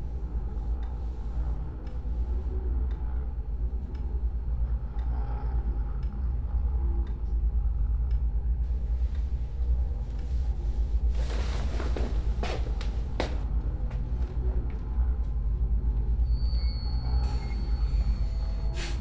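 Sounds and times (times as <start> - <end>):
low rumbling drone: 0.0 - 19.0.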